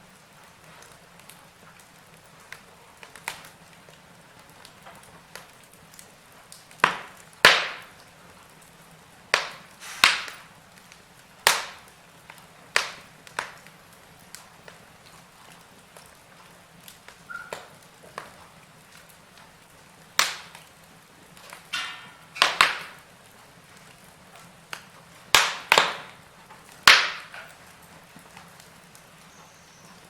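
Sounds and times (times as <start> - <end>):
faint steady hiss: 0.0 - 30.0
wood fire crackling: 0.0 - 30.0
sharp fire pops: 0.3 - 30.0.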